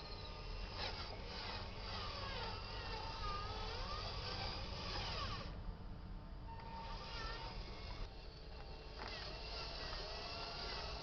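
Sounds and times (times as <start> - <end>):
small electric motor whining: 0.0 - 5.6, 6.5 - 11.0.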